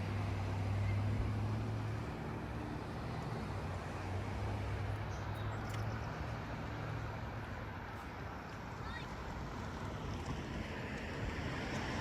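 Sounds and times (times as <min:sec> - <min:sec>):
low engine hum: 0:00.0 - 0:12.0
wind: 0:00.0 - 0:12.0.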